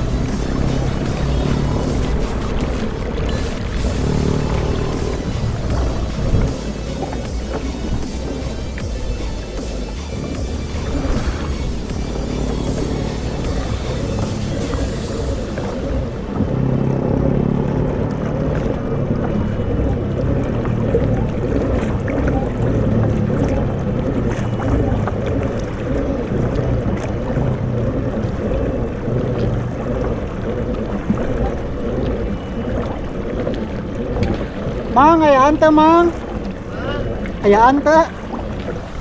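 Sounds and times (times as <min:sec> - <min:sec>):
boat rumbling at sea: 0:00.0 - 0:39.0
water: 0:00.0 - 0:39.0
wind on microphone: 0:00.0 - 0:39.0.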